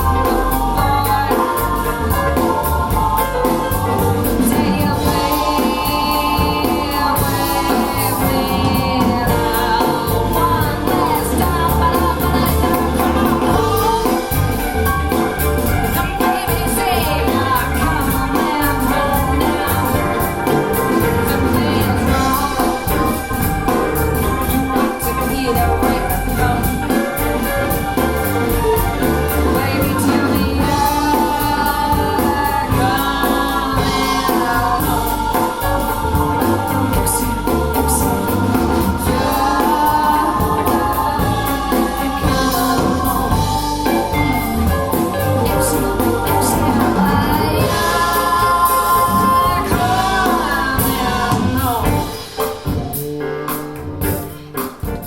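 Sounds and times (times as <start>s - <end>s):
gospel music with choir singing: 0.0s - 55.0s.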